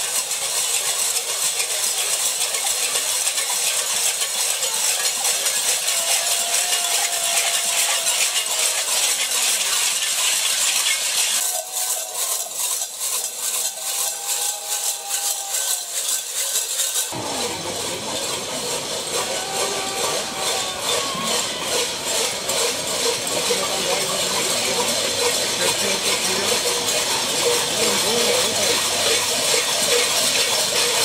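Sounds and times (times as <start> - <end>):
rattling and clanking of maskers marching: 0.0 - 31.0.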